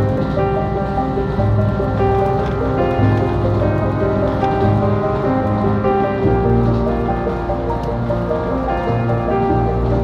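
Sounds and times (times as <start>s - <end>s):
background music with sustained chords: 0.0s - 10.0s.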